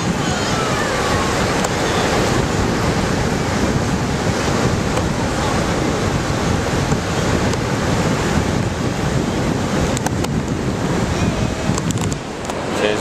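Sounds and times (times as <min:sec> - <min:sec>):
waves breaking on a beach: 0:00.0 - 0:13.0
wind buffeting microphone: 0:00.0 - 0:13.0.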